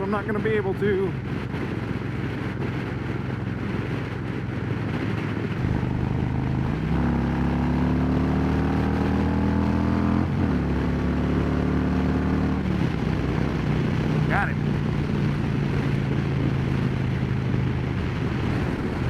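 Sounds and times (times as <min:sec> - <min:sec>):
wind noise on microphone: 0:00.0 - 0:19.0
motorcycle engine accelerating: 0:01.1 - 0:19.0.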